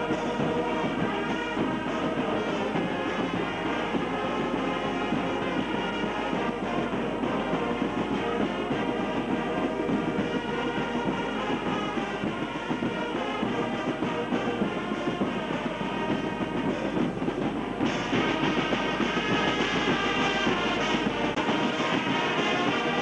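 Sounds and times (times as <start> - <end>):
brass instruments playing chords: 0.0 - 23.0.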